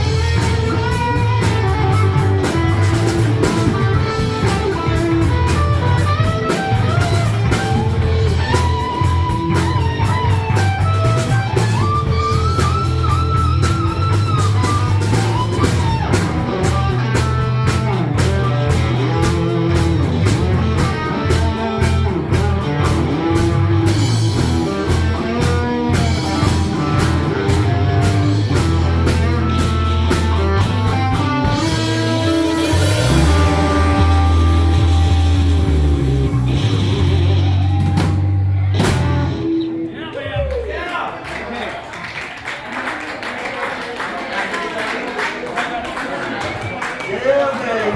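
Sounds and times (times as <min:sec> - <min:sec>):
electric guitar lead lines: 0:00.0 - 0:40.7
drum kit: 0:00.0 - 0:40.8
bass: 0:00.0 - 0:42.6.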